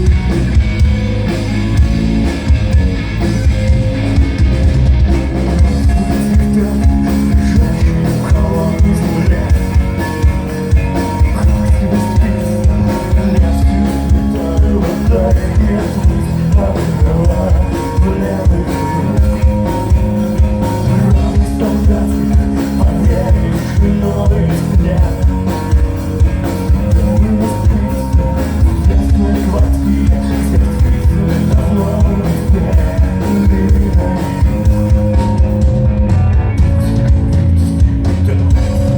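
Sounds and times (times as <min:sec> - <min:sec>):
bass guitar: 0:00.0 - 0:38.9
drum kit beat: 0:00.0 - 0:38.9
electric guitar: 0:00.0 - 0:38.9.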